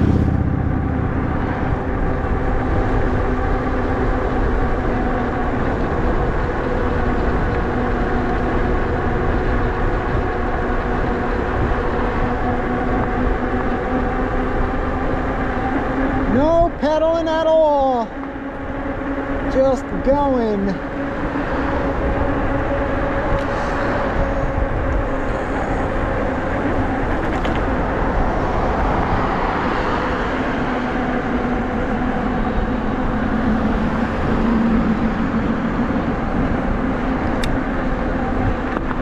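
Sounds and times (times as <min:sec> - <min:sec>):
electric bike motor drone: 0:00.0 - 0:39.0
wind rushing over microphone: 0:00.0 - 0:39.0.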